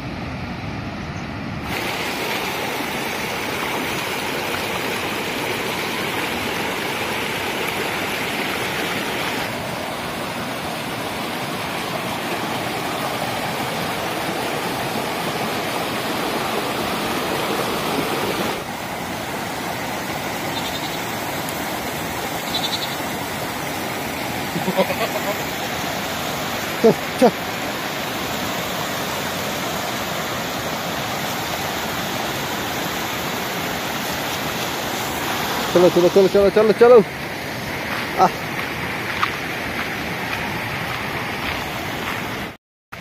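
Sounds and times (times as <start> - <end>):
stream rushing over stones: 1.6 - 43.0.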